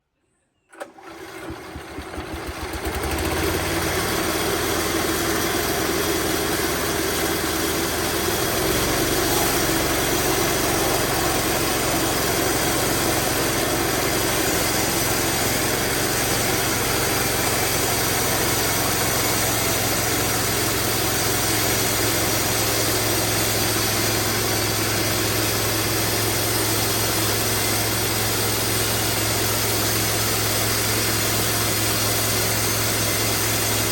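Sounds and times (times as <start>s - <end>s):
bandsaw sawmill running: 0.7s - 33.9s.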